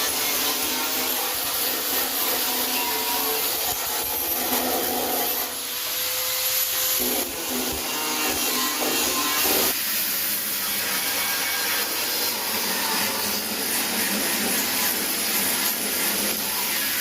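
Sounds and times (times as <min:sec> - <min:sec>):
angle grinder grinding steel: 0:00.0 - 0:17.0.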